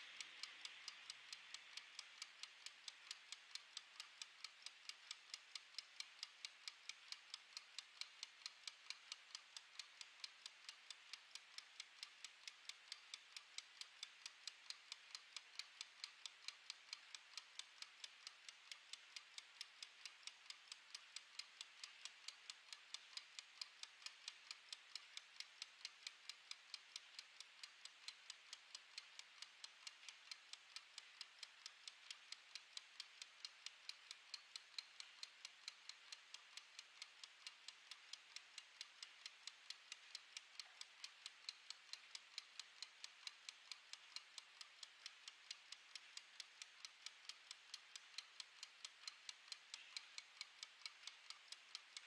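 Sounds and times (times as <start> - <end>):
kitchen timer ticking: 0.0 - 52.0.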